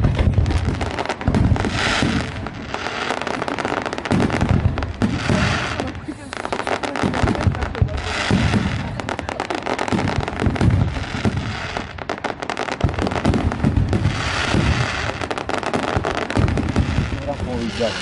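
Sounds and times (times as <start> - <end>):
fireworks bangs and pops: 0.0 - 18.0
fireworks crackling: 0.0 - 18.0.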